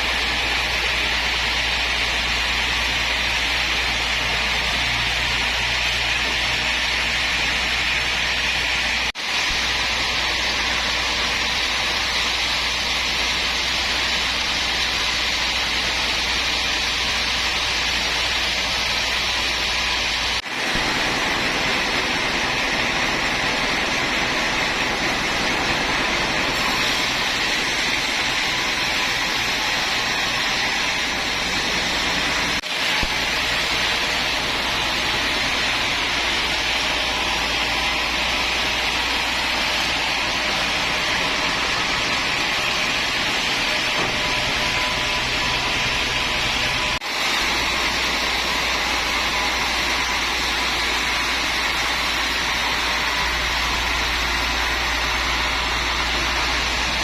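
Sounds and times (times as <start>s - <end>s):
woodworking machine whirring: 0.0s - 57.0s.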